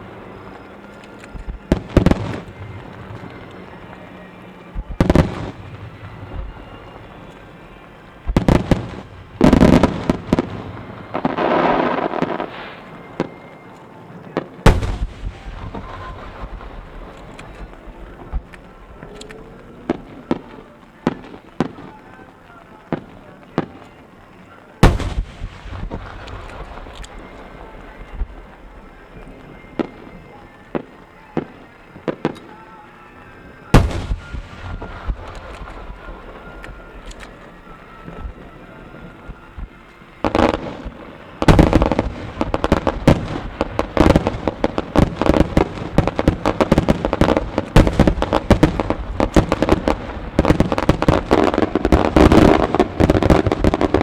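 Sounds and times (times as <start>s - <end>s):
faint music: 0.0s - 54.0s
fireworks bangs: 0.0s - 54.0s
fireworks rushing noise: 0.0s - 54.0s.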